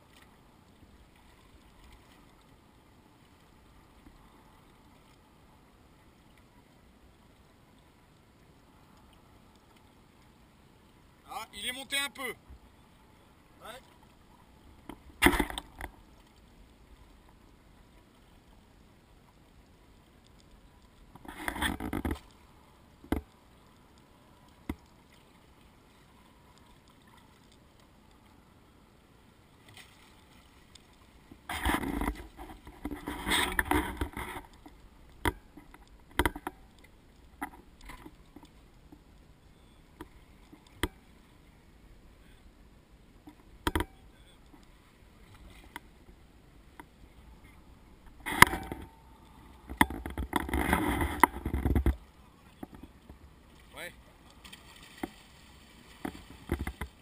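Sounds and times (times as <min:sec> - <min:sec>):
water sloshing against hull: 0:00.0 - 0:57.0.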